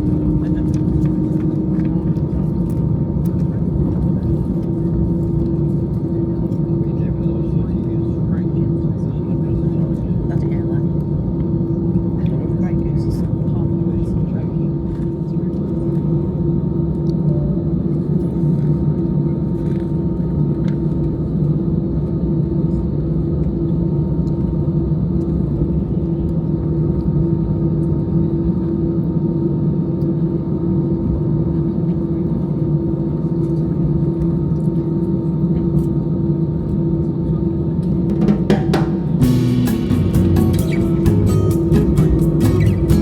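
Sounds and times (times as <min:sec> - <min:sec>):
constant hum: 0:00.0 - 0:43.0
jet airliner cabin drone: 0:00.0 - 0:43.0.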